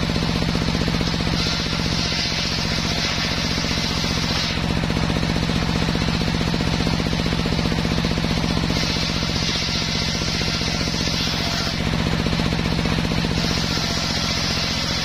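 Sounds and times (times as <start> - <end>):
circular saw blade cutting wood: 0.0 - 15.0
saw motor humming: 0.0 - 15.0.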